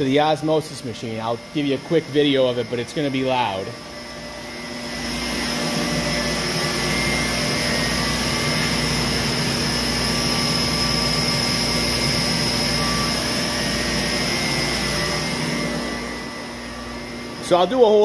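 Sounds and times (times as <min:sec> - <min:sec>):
reverse osmosis machine whirring: 0:00.0 - 0:18.0.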